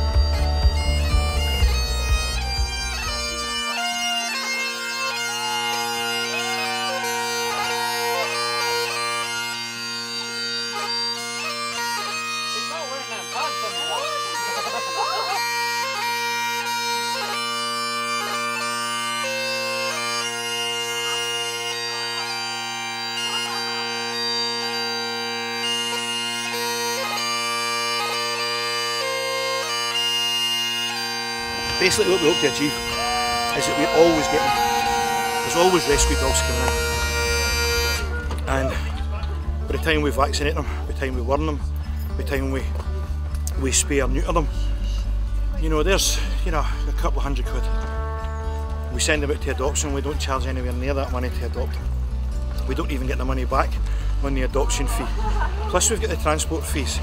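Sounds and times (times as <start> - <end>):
bagpipes playing a tune: 0.0 - 57.0.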